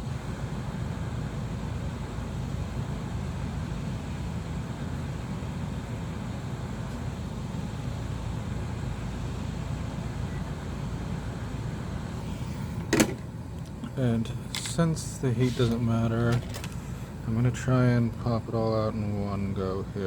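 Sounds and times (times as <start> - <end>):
heating tool fan rushing: 0.0 - 20.0.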